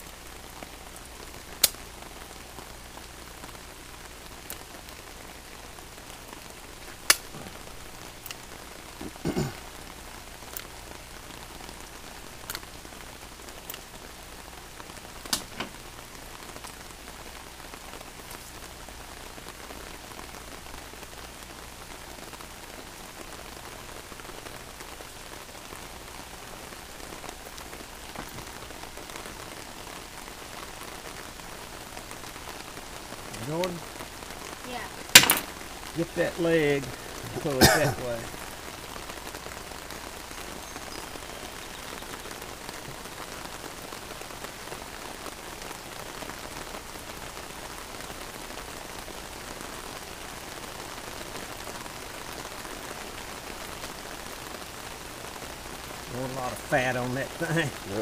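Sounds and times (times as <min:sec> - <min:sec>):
raindrops clicking close by: 0:00.0 - 0:58.0
steady rain falling: 0:00.0 - 0:58.0.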